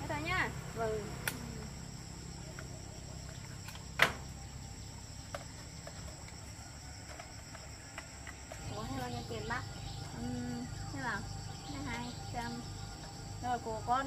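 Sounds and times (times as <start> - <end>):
crickets chirring: 0.0 - 14.0
low steady hum: 0.0 - 14.0.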